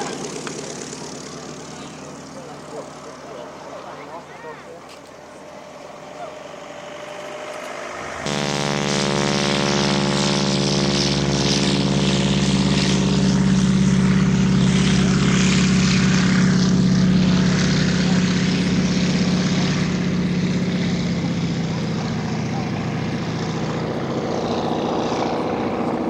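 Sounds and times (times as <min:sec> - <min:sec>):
propeller aircraft engine running: 0:00.0 - 0:26.0.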